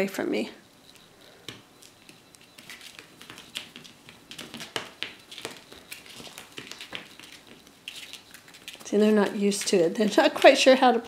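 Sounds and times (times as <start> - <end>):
kitten paws tapping and scratching: 0.9 - 10.8.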